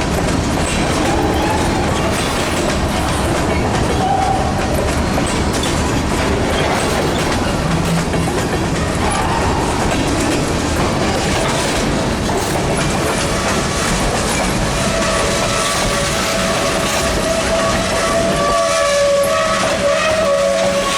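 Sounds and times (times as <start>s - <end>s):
freight train wheels clattering: 0.0s - 20.9s.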